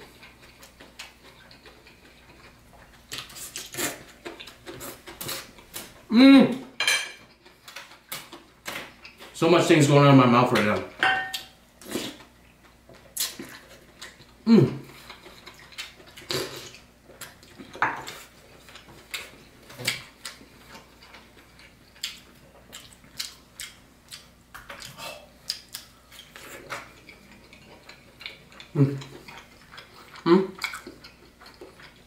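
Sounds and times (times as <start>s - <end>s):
chewing and mouth noises: 0.0s - 6.0s, 7.2s - 9.4s, 11.3s - 32.0s.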